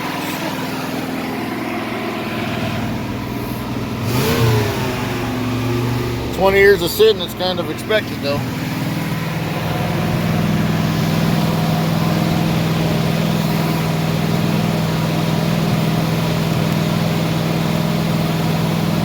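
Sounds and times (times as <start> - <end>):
engine at fast idle: 0.0 - 19.0.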